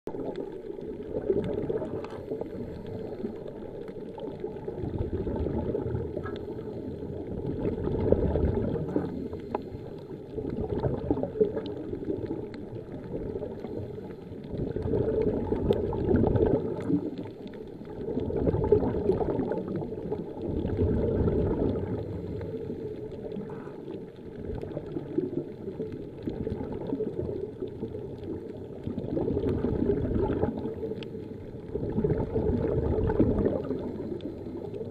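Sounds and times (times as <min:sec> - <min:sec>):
underwater exhaust bubbles gurgling: 0:00.1 - 0:34.9.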